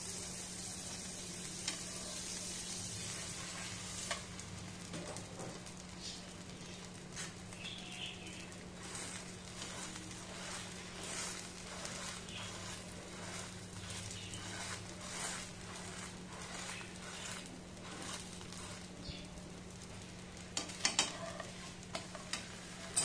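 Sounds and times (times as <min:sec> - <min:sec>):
batter sizzling in a pan: 0:00.0 - 0:23.0.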